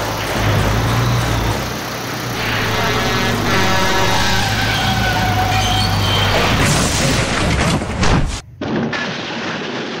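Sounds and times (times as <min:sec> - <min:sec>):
engine hum: 0:00.0 - 0:08.0.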